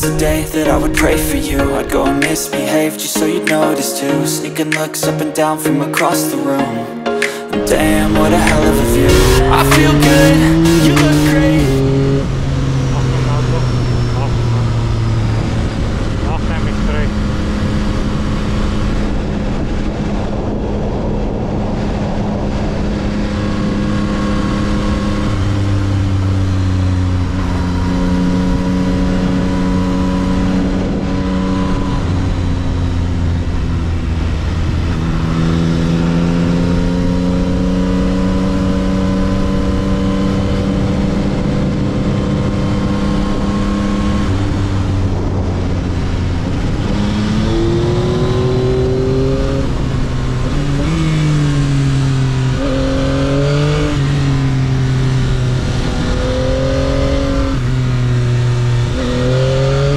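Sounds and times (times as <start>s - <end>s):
wind and road rush: 0.0s - 2.6s, 7.7s - 59.9s
motorcycle engine at road speed: 8.0s - 59.9s.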